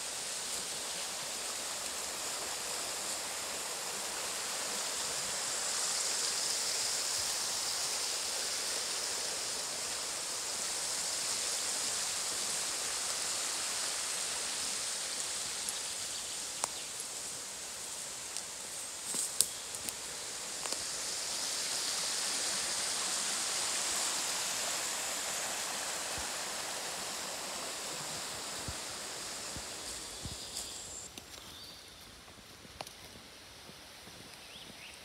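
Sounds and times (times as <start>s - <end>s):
stream rushing over stones: 0.0s - 31.1s.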